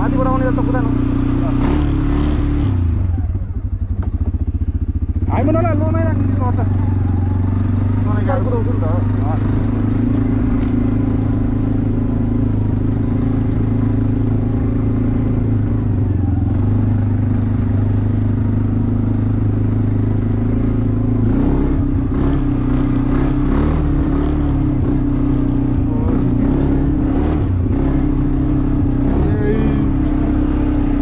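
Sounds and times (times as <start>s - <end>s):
engine clatter: 0.0s - 25.1s
atv engine running: 0.0s - 31.0s.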